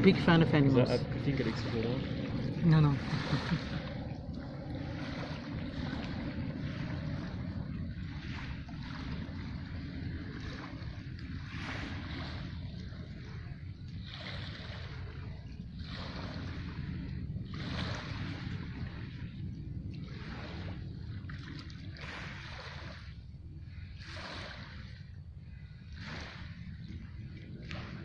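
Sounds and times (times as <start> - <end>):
waves washing over pebbles: 0.0 - 23.2, 26.0 - 26.7
wind rumbling on microphone: 0.0 - 28.0.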